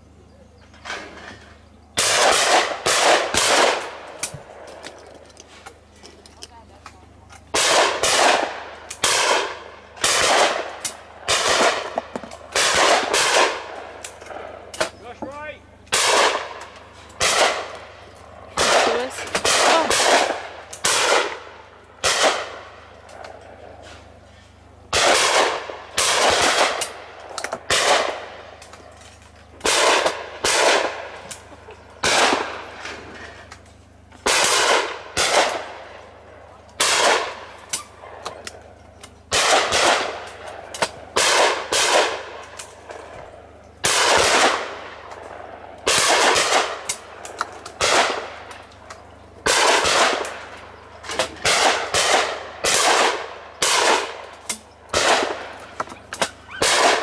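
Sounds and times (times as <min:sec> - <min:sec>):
shotguns firing with echo: 0:02.0 - 0:04.9, 0:07.5 - 0:23.7, 0:24.9 - 0:33.4, 0:34.2 - 0:38.7, 0:39.3 - 0:57.0.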